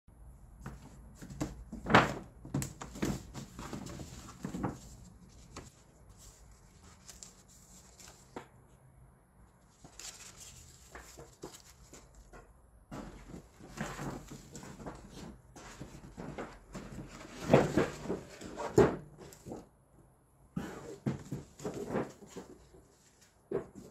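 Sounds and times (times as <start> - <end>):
paper bag rustling and crinkling: 0.7 - 8.5, 9.7 - 19.7, 21.0 - 23.9.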